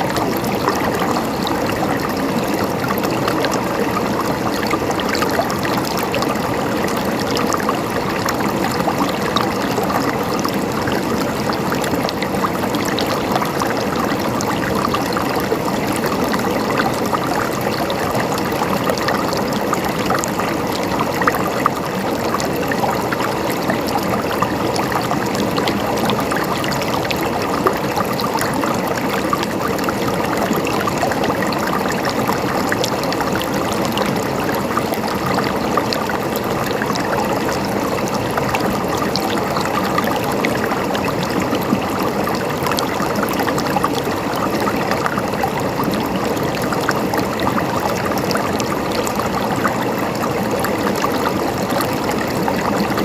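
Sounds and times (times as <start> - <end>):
river water over rocks: 0.0 - 53.0.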